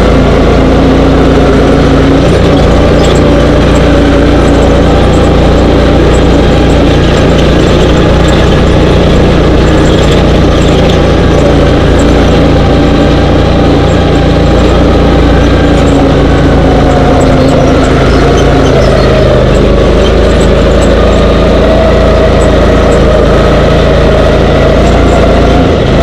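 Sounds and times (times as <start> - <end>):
dune buggy engine running: 0.0 - 26.0.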